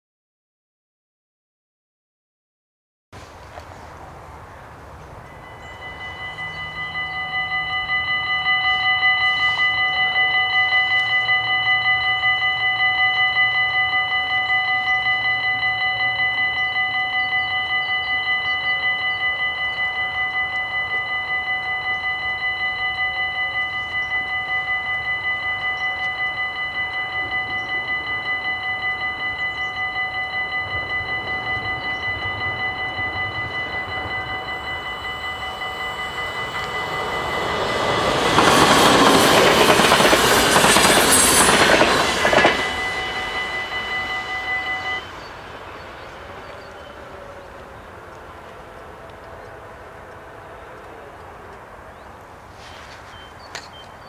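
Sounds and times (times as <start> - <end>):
train passing: 3.2 - 54.0
railway crossing bells ringing: 4.8 - 54.0.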